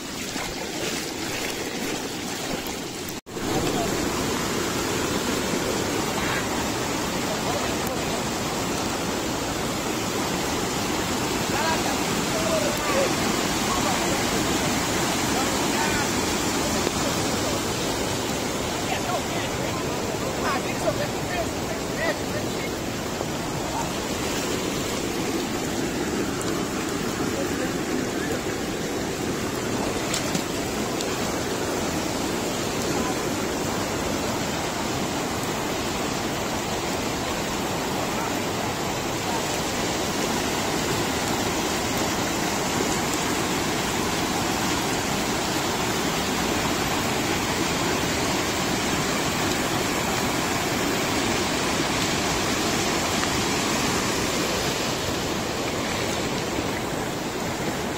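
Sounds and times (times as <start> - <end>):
floodwater rushing down a creek: 0.0 - 57.9.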